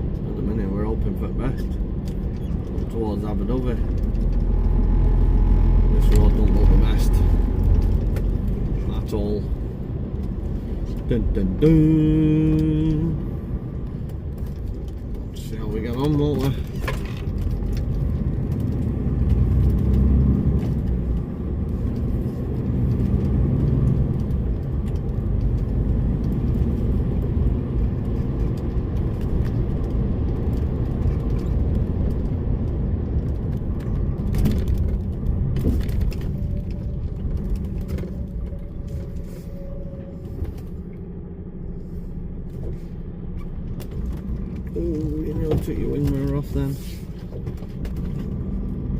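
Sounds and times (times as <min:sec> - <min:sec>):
truck diesel engine driving: 0:00.0 - 0:48.9.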